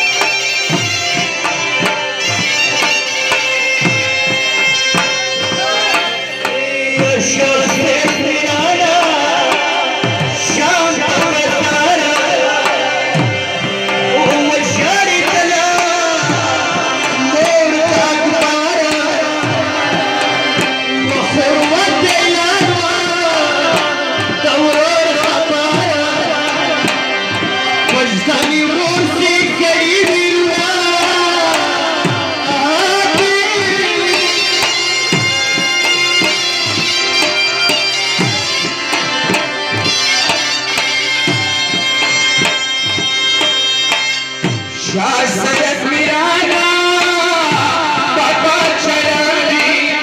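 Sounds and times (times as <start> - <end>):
harmoniums holding chords: 0.0 - 50.0
wavering lead melody: 0.0 - 50.0.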